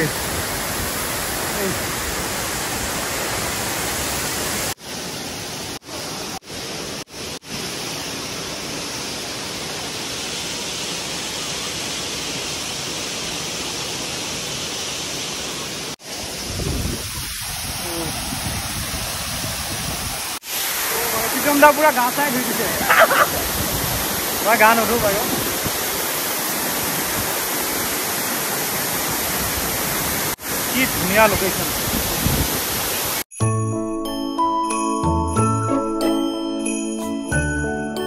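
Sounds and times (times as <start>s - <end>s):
waterfall rushing: 0.0s - 33.2s.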